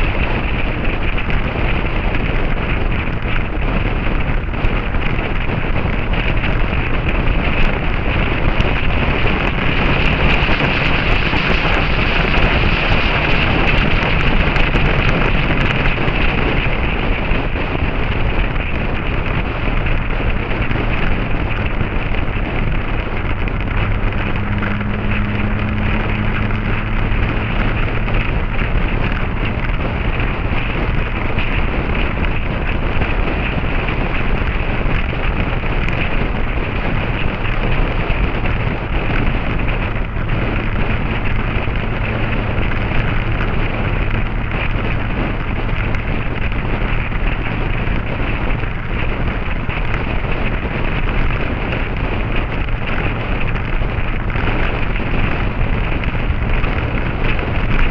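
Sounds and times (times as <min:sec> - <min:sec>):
motorcycle engine low note: 0:00.0 - 0:57.9
wind rushing over microphone: 0:00.0 - 0:57.9.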